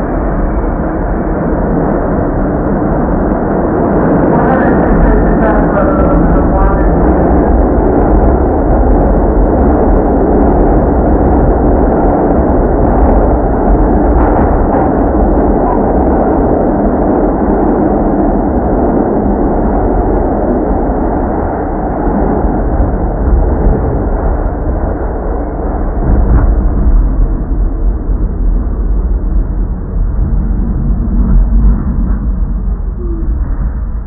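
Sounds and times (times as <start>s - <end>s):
subway wheels rumbling on rails: 0.0s - 34.0s.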